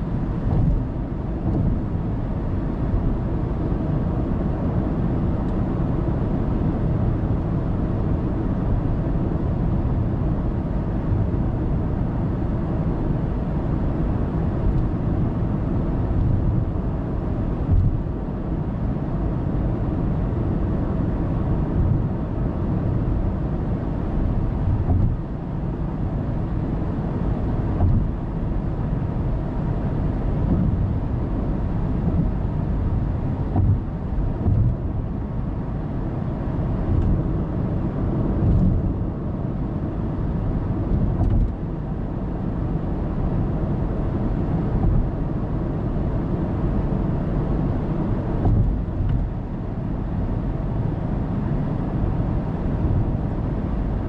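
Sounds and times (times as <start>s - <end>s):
car road and tyre noise: 0.0s - 54.0s.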